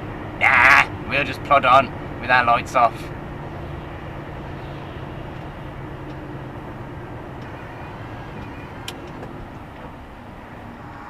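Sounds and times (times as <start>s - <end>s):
lorry engine running: 0.0s - 11.0s.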